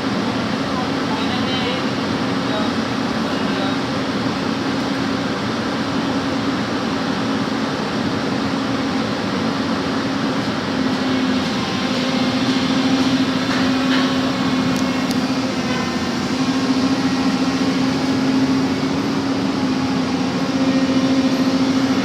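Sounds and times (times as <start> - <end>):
backhoe engine running: 0.0 - 22.0.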